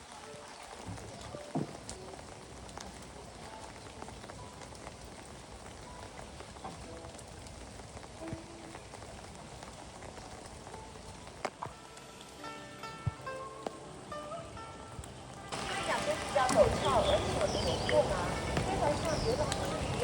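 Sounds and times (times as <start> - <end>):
light rain hiss: 0.0 - 20.0
raindrop ticks: 0.0 - 20.0.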